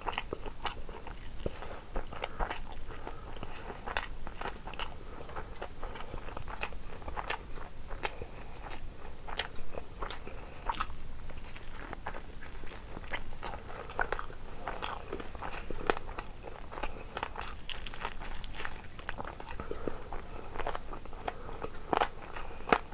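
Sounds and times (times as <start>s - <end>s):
person chewing and biting food: 0.0s - 22.9s.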